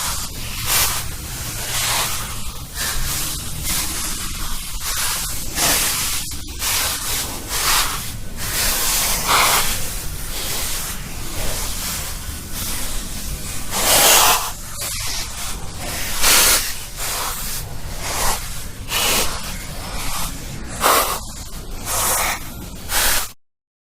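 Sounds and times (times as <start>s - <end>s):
steady low rumble: 0.0s - 22.9s
heavy creepy breathing: 0.0s - 23.3s.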